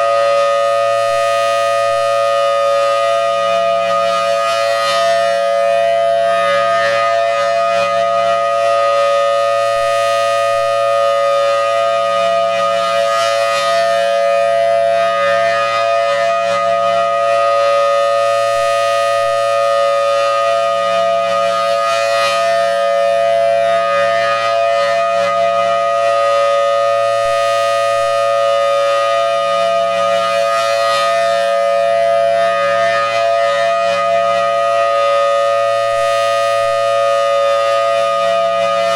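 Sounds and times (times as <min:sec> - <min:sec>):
mechanical siren wailing: 0:00.0 - 0:38.9.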